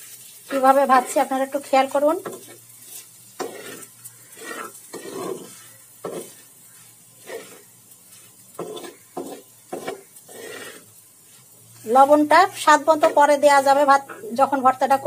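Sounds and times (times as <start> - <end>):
spatula scraping a frying pan: 0.0 - 14.2
faint oil sizzle: 0.0 - 15.0.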